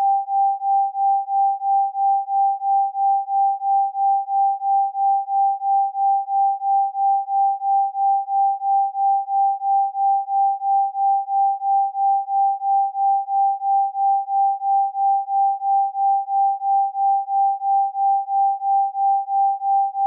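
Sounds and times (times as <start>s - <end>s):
pulsing sine tone: 0.0s - 20.0s.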